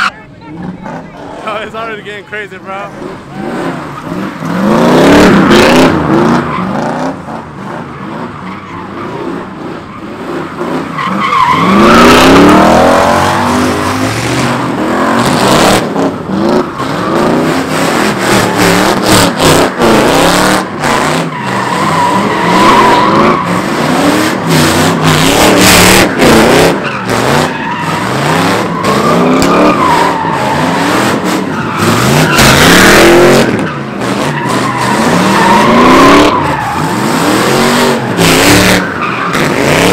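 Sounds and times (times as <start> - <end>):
car engines revving: 0.0 - 39.9
tires squealing on pavement: 0.0 - 39.9.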